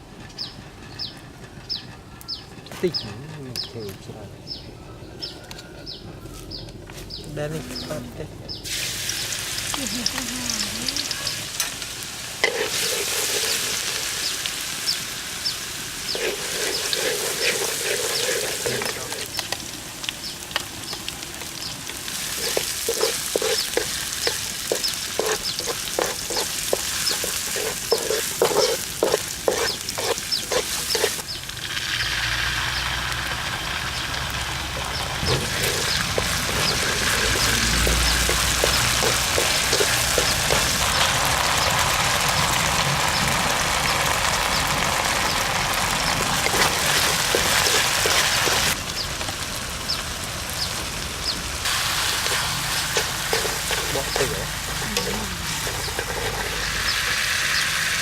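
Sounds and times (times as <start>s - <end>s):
food sizzling in hot oil: 8.6s - 58.0s.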